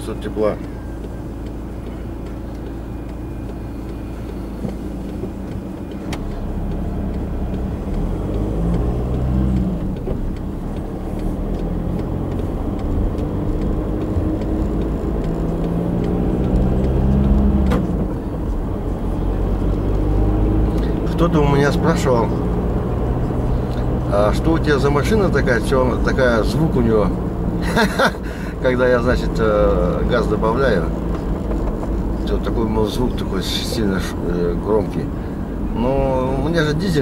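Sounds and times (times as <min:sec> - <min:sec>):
diesel car engine accelerating: 0:00.0 - 0:37.0.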